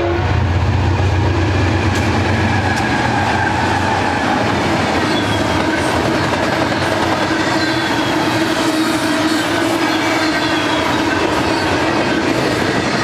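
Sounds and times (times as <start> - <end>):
diesel locomotive drone: 0.0 - 13.0
train wheels rumbling on rail: 0.0 - 13.0.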